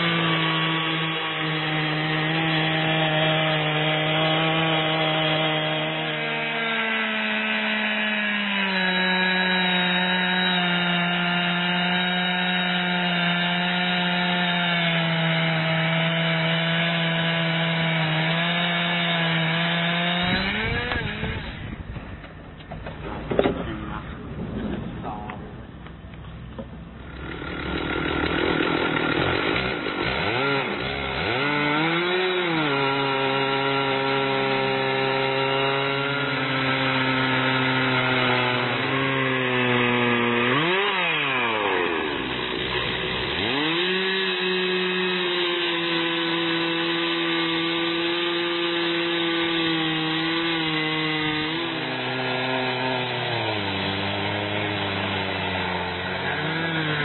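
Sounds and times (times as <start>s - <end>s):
chainsaw ripping through log: 0.0s - 21.9s, 27.0s - 57.0s.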